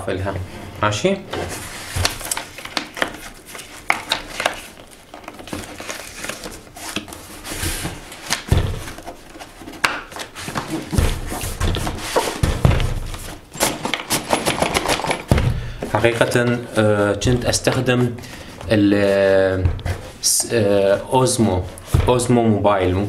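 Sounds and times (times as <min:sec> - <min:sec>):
cardboard rustling and scraping: 0:00.1 - 0:22.5.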